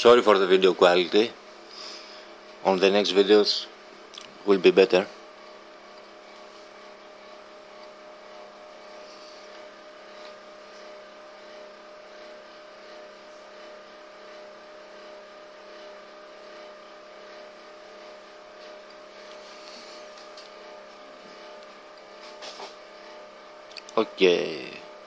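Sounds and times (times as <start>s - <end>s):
faint background hum and hiss: 0.0s - 25.0s.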